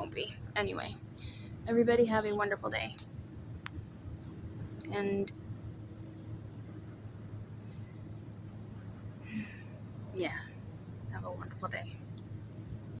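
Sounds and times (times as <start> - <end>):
insect chirping: 0.0 - 13.0
low steady hum: 0.0 - 13.0.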